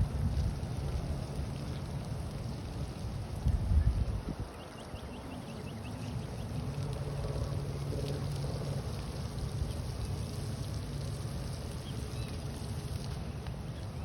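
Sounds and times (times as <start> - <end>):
moving water: 0.0 - 14.0
wind: 0.0 - 14.0.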